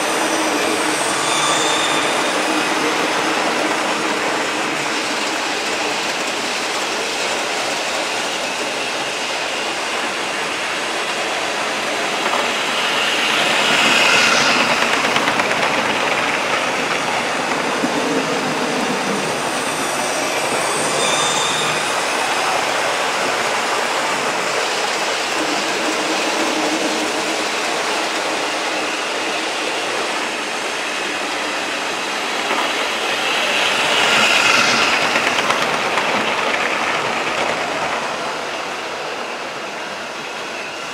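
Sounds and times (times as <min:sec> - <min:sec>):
model trains whirring on track: 0:00.0 - 0:40.9.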